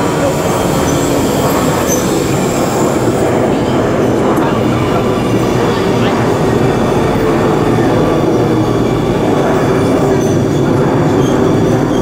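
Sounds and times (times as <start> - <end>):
metro train wheels on rails: 0.0 - 12.0.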